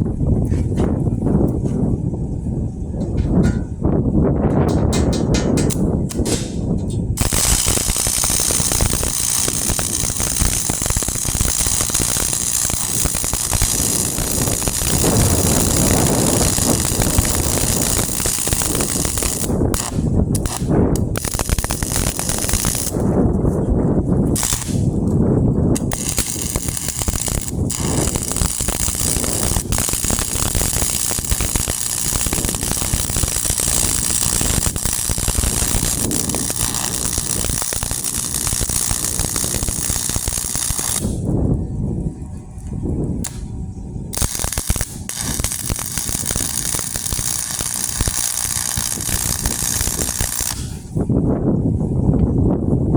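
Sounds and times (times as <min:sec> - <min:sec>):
welding arc crackling: 0:05.1 - 0:23.6, 0:24.2 - 0:41.3, 0:44.1 - 0:51.0.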